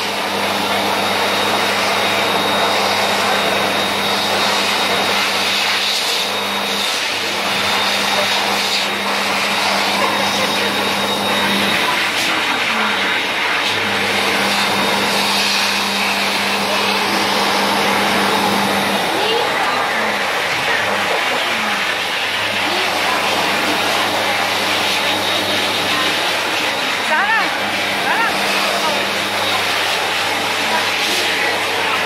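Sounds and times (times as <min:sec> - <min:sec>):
hand dryer blowing air: 0:00.0 - 0:32.0.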